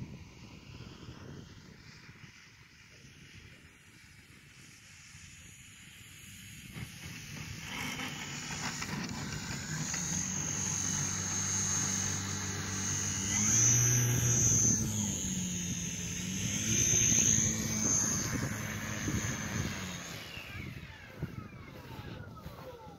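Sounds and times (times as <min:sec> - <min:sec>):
model airplane motor whining: 0:00.0 - 0:22.9.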